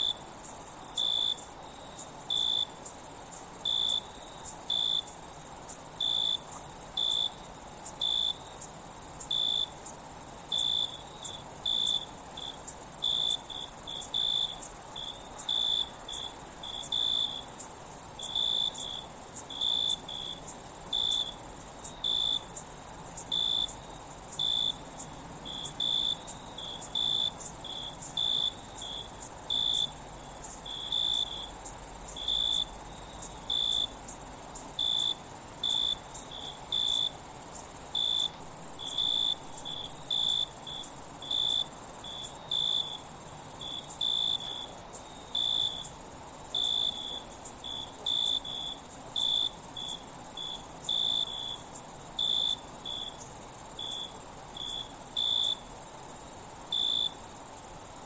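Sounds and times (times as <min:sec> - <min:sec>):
cricket chirping: 0:00.0 - 0:58.0
insect chorus trilling: 0:00.0 - 0:58.0.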